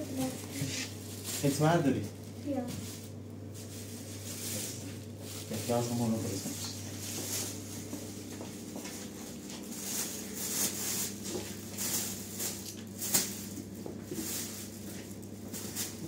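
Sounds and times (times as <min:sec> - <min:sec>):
plastic bag rustling: 0:00.0 - 0:16.0
steady low hum: 0:00.0 - 0:16.0.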